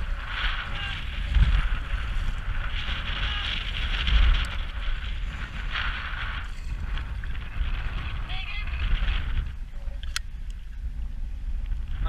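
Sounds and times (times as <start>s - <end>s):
water lapping against kayak: 0.0s - 12.0s
wind buffeting microphone: 0.0s - 12.0s.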